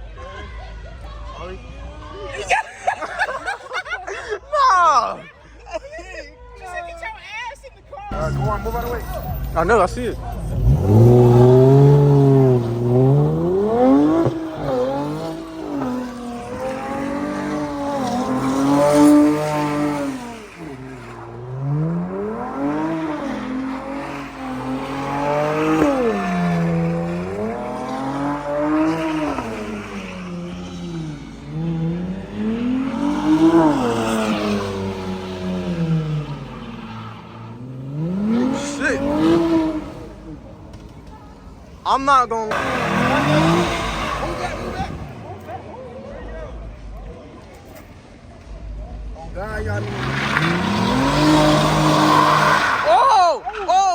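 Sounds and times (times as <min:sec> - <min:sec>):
car engine revving: 0:08.1 - 0:53.8.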